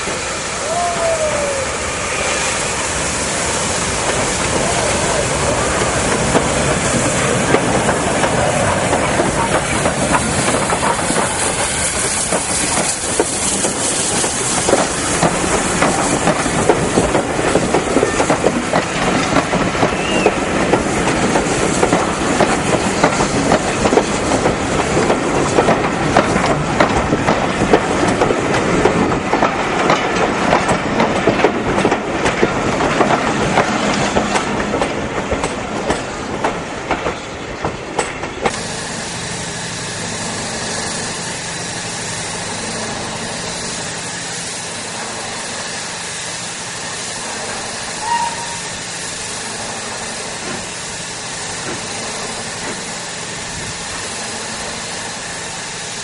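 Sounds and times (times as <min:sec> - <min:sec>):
train wheels clattering over rail joints: 0:03.6 - 0:56.0.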